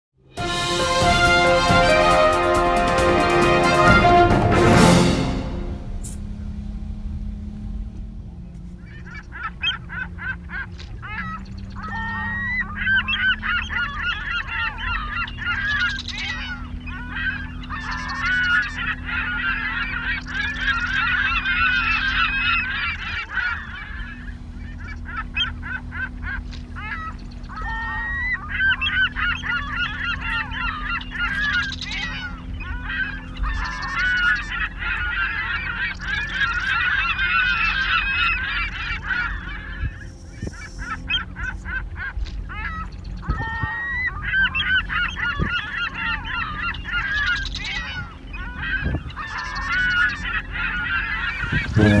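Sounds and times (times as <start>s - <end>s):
low steady hum: 0.2s - 52.0s
flock of birds calling: 7.5s - 52.0s.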